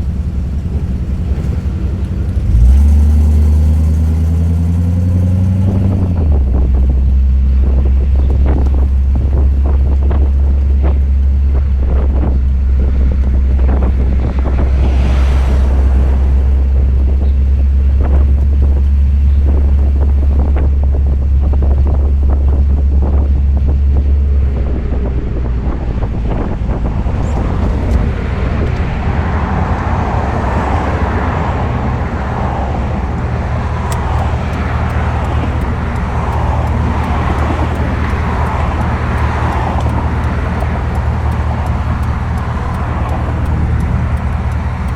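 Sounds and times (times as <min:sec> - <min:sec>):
car engine running: 0:00.0 - 0:44.9
wind on microphone: 0:00.0 - 0:44.9.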